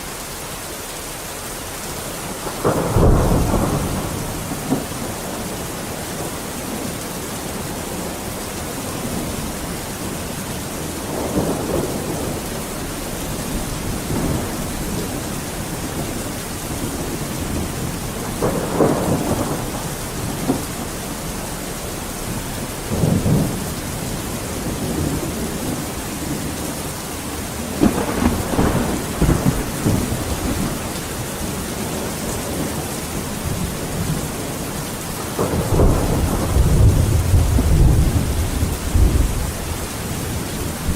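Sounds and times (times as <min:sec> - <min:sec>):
heavy rain: 0:00.0 - 0:40.9
thunder rumbling: 0:02.3 - 0:40.9.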